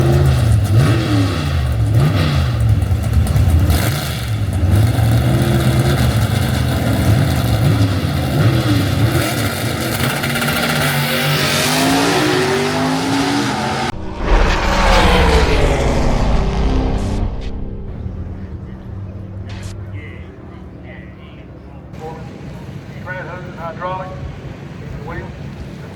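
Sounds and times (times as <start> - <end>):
race car engines revving: 0.0 - 25.9.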